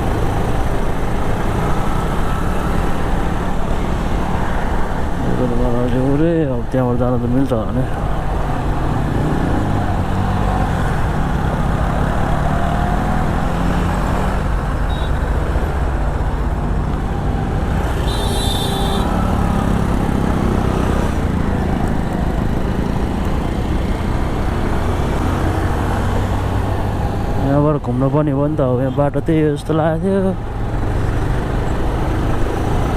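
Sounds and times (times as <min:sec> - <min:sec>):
motorcycle engine and road noise: 0:00.0 - 0:32.9.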